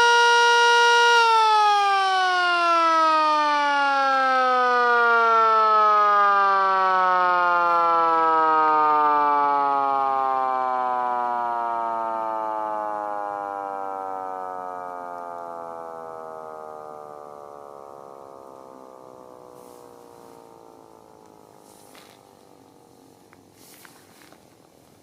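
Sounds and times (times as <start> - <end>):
siren winding down: 0.0 - 24.3.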